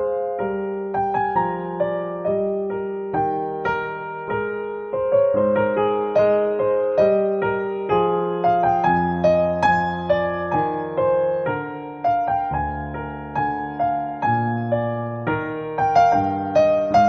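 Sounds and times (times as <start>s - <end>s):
soft electric piano melody: 0.0s - 17.0s.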